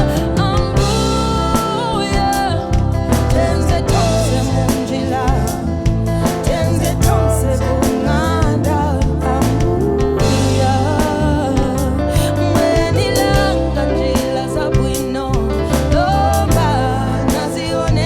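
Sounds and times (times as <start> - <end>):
live band playing: 0.0 - 18.0
woman singing: 0.0 - 18.0.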